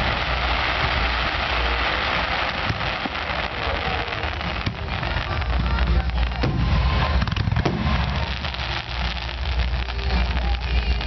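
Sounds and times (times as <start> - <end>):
heavy low firework booms: 0.0 - 10.4
firework crackling: 0.0 - 11.0
sharp firework reports: 0.0 - 11.0.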